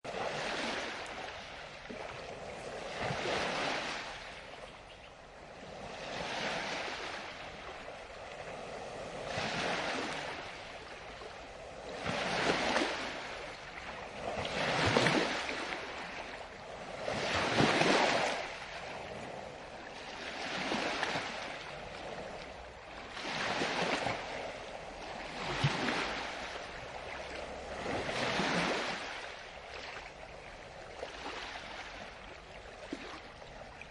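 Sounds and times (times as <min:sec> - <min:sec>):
sea waves washing onto shore: 0:00.1 - 0:33.9.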